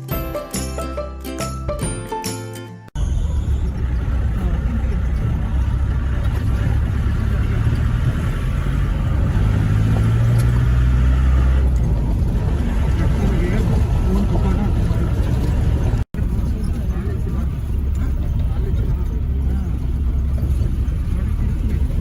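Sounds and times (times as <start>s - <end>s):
car engine rumbling: 2.9s - 22.0s.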